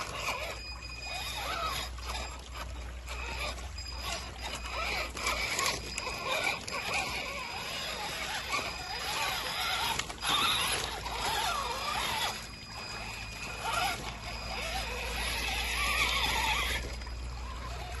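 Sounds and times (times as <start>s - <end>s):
electric motor and gearbox whining: 0.0s - 18.0s.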